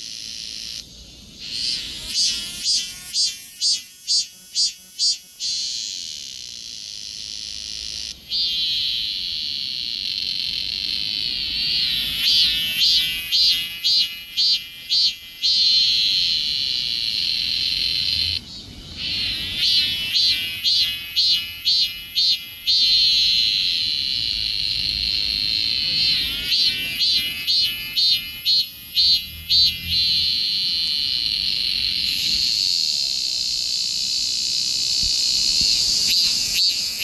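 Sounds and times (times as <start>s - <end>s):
cicada pulsing and buzzing: 0.0s - 37.0s.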